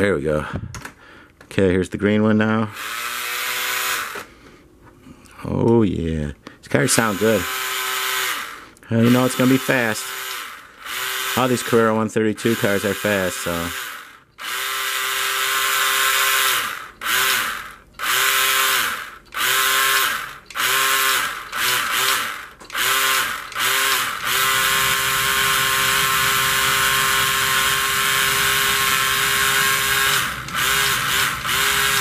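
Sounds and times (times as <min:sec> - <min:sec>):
slot car motor whining: 0:02.7 - 0:04.4, 0:06.7 - 0:32.0.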